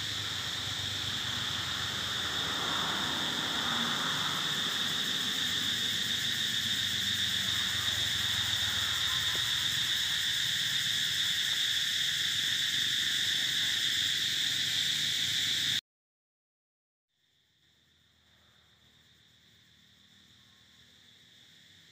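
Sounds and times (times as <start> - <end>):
insects droning: 0.0 - 15.8, 17.2 - 21.9.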